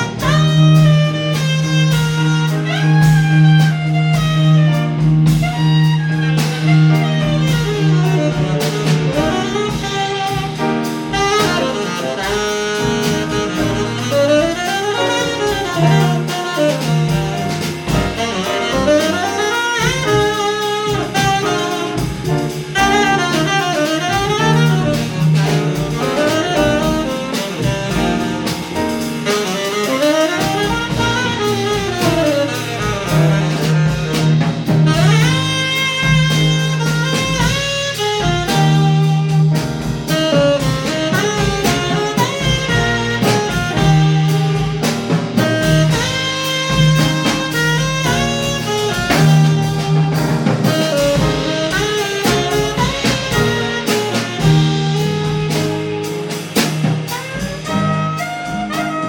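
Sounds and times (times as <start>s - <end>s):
double bass repeating low note: 0.0s - 59.0s
drum kit: 0.0s - 59.0s
piano: 0.0s - 59.0s
saxophone: 0.0s - 59.0s.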